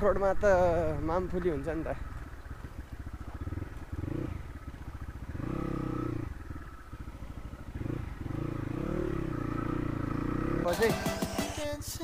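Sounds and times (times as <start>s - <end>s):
dirt bike engine revving: 2.0s - 11.7s.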